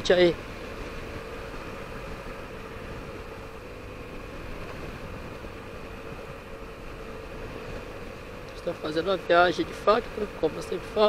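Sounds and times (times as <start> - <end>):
motorcycle engine drone: 0.0 - 11.0
road rumble: 0.0 - 11.0
wind: 0.0 - 11.0.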